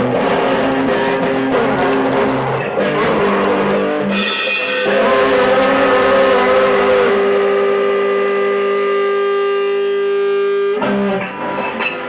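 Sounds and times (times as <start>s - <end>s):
band holding a chord: 0.0s - 12.0s.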